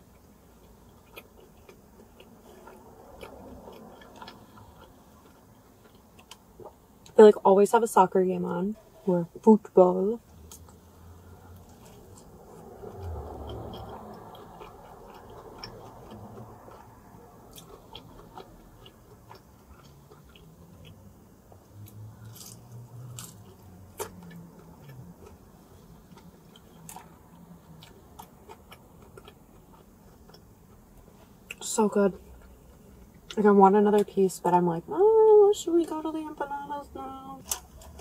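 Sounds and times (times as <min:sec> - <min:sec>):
person chewing pizza: 0:00.0 - 0:07.2, 0:10.3 - 0:33.4, 0:37.4 - 0:38.0.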